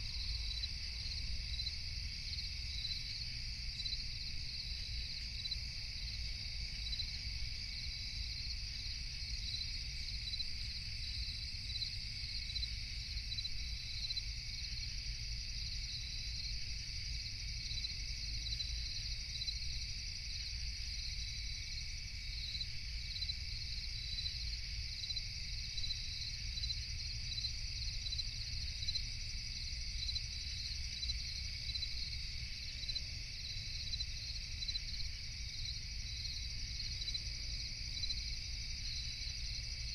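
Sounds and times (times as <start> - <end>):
insect chirping: 0.0 - 39.9
insects trilling: 0.0 - 39.9.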